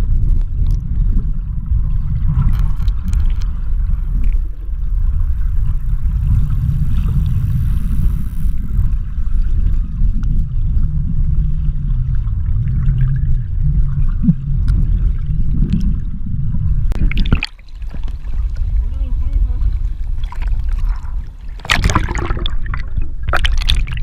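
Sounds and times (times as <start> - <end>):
boat engine rumble: 0.0 - 24.0
water churning: 1.3 - 24.0.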